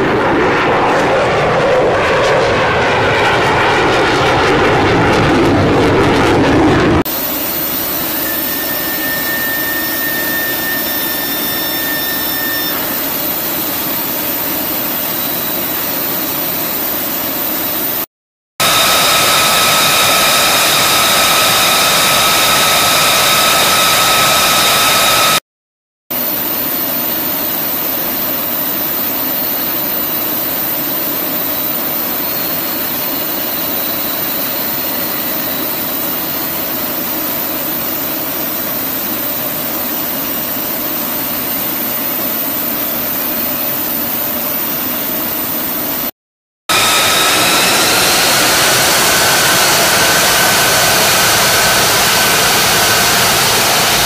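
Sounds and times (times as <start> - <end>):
jet engine idling whine: 0.0 - 25.4, 26.1 - 46.1, 46.7 - 54.0.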